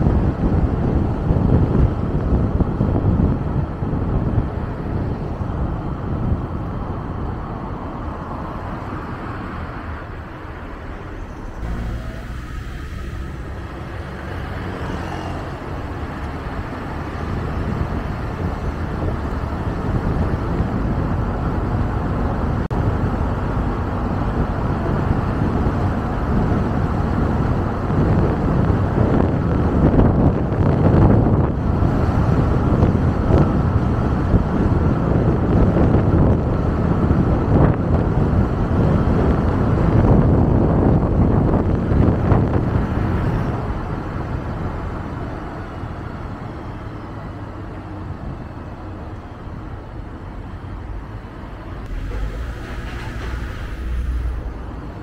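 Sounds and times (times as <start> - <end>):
car tyre and road noise: 0.0 - 55.0.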